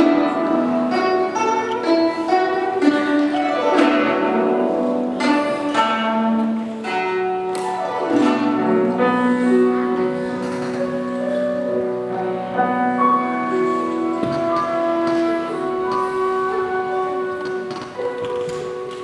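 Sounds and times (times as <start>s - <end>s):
plucked zither notes: 0.0s - 19.0s.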